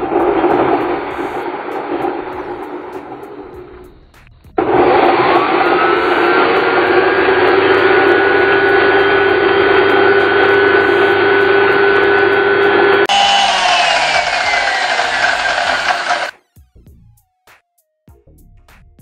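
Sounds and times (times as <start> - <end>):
circular saw motor whine: 0.0 - 16.3.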